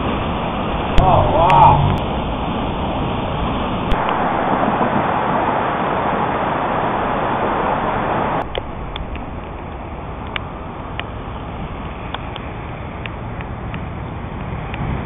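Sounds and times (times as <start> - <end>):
rushing floodwater: 0.0 - 15.0.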